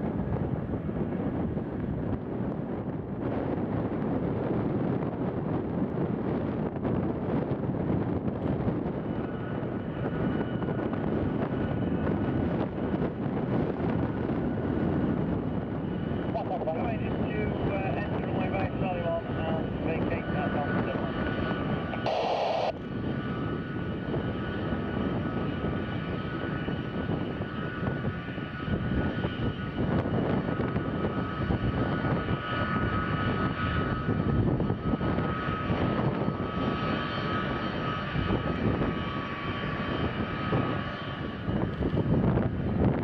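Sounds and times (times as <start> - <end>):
jet engines whining at taxi power: 0.0 - 43.0.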